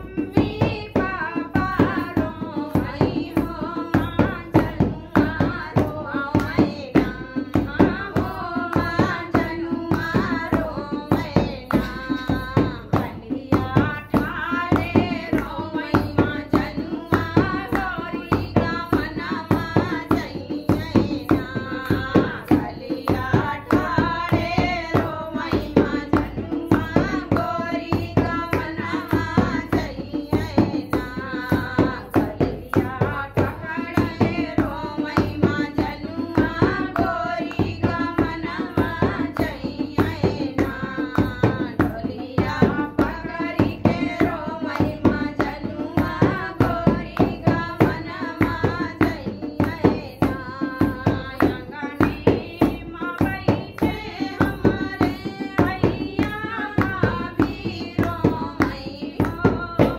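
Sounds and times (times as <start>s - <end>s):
hand percussion beat: 0.0s - 59.9s
women singing folk song: 0.0s - 59.9s.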